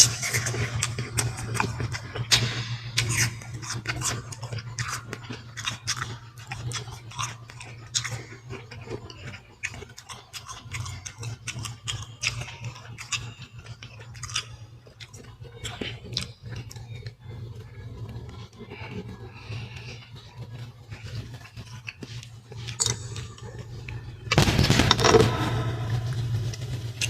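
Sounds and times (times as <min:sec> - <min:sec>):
person chewing fruit: 0:00.0 - 0:27.0
steady low hum: 0:00.0 - 0:27.0.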